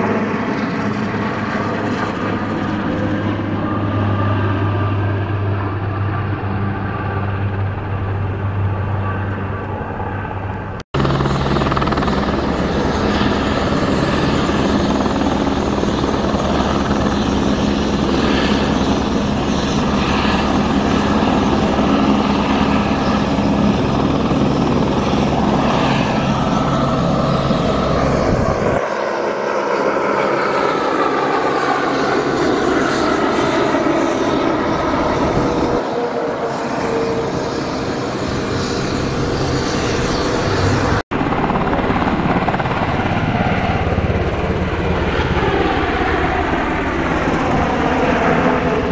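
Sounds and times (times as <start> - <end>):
helicopter rotor beating: 0.0 - 48.9.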